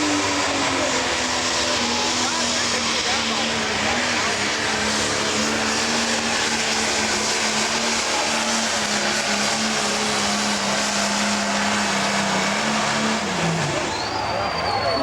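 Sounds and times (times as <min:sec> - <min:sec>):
diesel engine droning at high rpm: 0:00.0 - 0:15.0.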